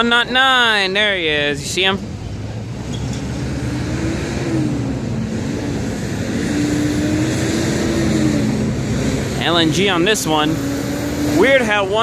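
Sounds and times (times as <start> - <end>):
road traffic rumble: 0.0 - 12.0
vehicles passing: 0.0 - 12.0.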